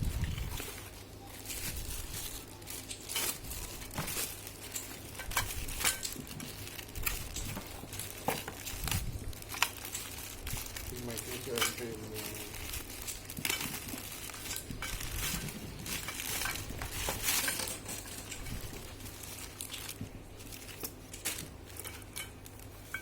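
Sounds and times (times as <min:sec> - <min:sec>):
packaging crinkling: 0:00.0 - 0:23.0
sharp clicks and crackles: 0:00.5 - 0:23.0.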